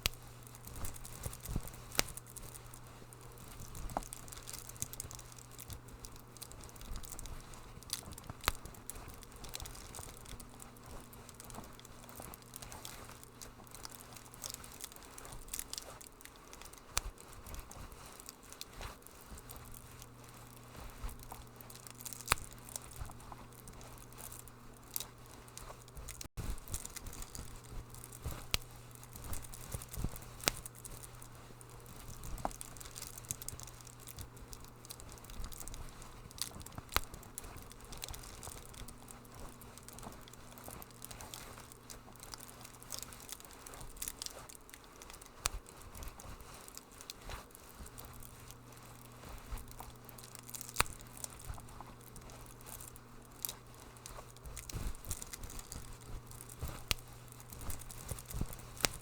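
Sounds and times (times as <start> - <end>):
steady low hum: 0.0 - 59.0
wood fire crackling: 0.0 - 59.0.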